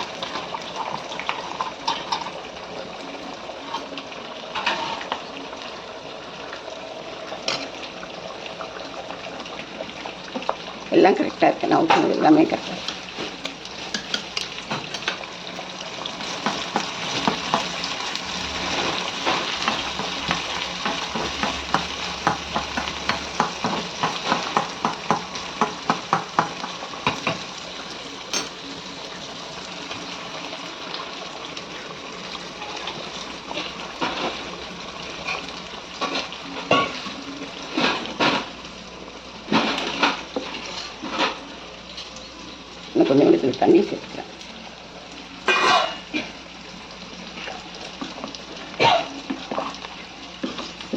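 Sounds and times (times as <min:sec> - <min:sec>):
aromatics sizzling in hot oil: 0:00.0 - 0:50.9.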